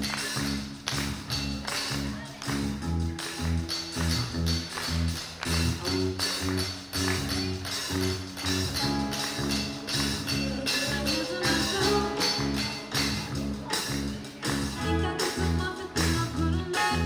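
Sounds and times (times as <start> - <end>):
bass guitar: 0.0 - 17.0
drum kit beat: 0.0 - 17.0
electric guitars: 0.0 - 17.0
keyboard: 0.0 - 17.0.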